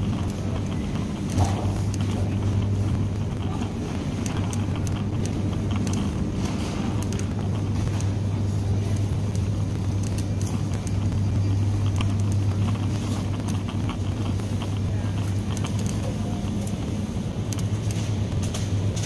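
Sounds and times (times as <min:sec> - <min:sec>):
faint scattered clicks: 0:00.0 - 0:19.0
refrigerator and ventilation hum: 0:00.0 - 0:19.0.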